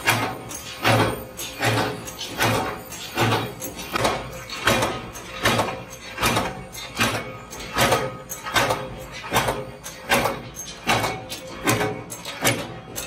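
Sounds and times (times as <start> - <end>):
power press metallic clanks: 0.0 - 13.0.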